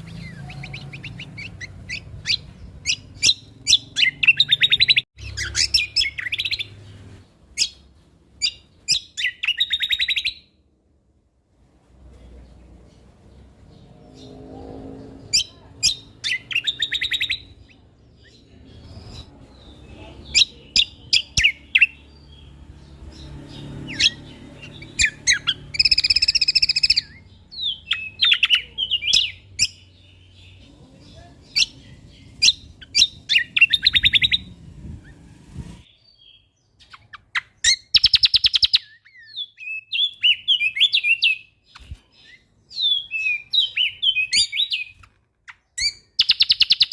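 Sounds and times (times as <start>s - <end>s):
songbird chirps and trills: 0.0s - 46.9s.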